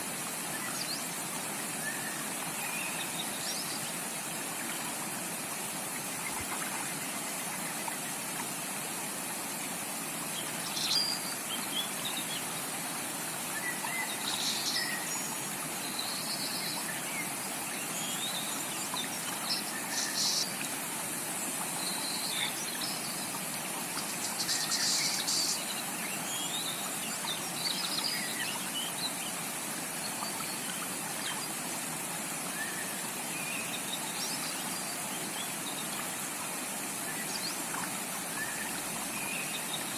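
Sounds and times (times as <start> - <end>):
creek rushing: 0.0 - 39.9.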